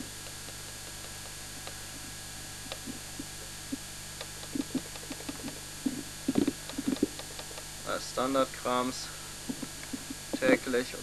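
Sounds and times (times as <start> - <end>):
low mains hum: 0.0 - 11.0
videotape hiss: 0.0 - 11.0.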